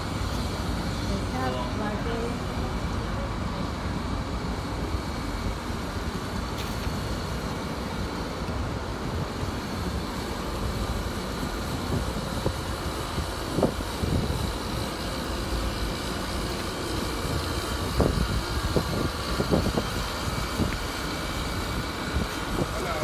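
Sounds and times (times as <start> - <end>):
city road traffic rumble: 0.0 - 23.0.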